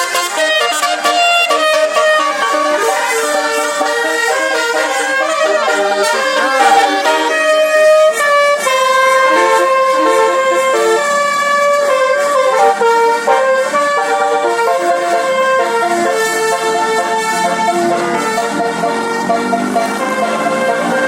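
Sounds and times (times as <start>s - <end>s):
musical bus air horn melody: 0.0s - 21.0s.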